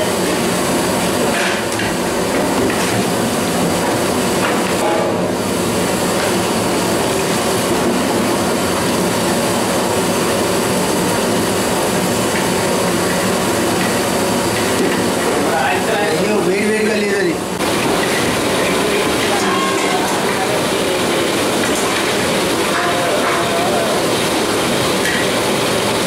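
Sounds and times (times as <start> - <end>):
kitchen roar: 0.0 - 26.0.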